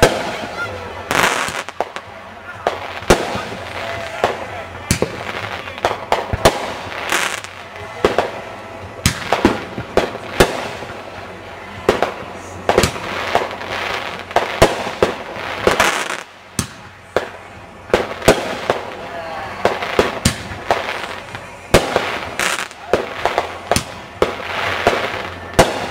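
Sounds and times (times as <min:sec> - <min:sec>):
fireworks bangs: 0:00.0 - 0:25.9
fireworks hissing crackle: 0:00.0 - 0:25.9.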